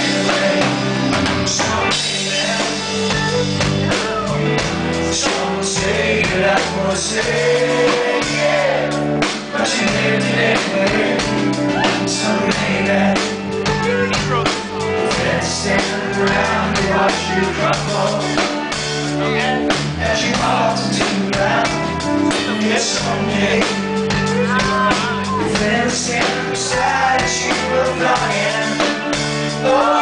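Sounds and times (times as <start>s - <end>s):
male singer: 0.0s - 30.0s
rock band playing live: 0.0s - 30.0s.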